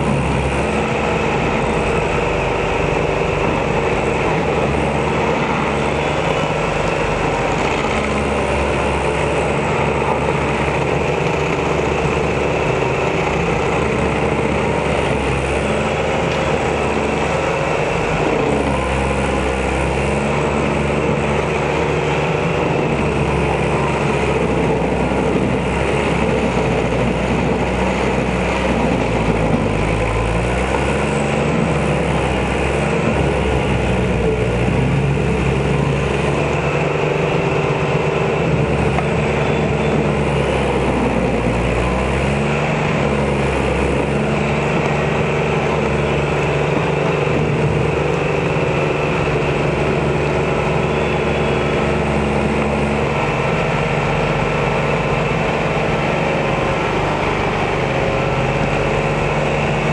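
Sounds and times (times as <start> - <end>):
cutter wheel grinding wood: 0.0 - 59.9
stump grinder engine: 0.0 - 59.9.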